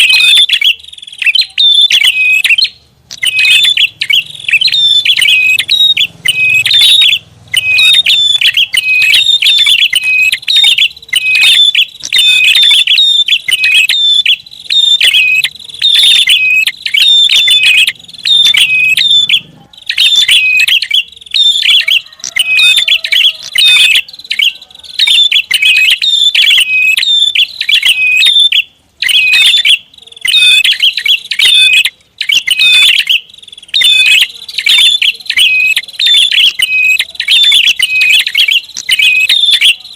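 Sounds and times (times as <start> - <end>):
bird chirping high and sharp: 0.0 - 39.9.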